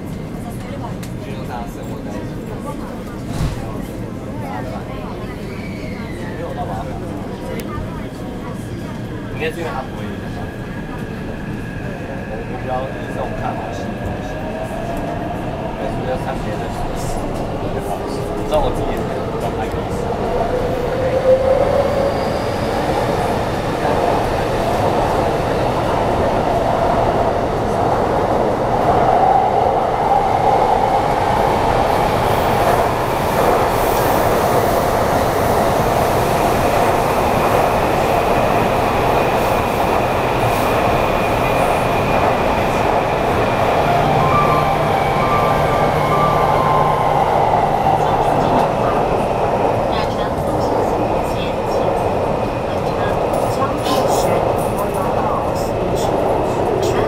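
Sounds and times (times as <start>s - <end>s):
train rumble and rail noise: 0.0s - 57.0s.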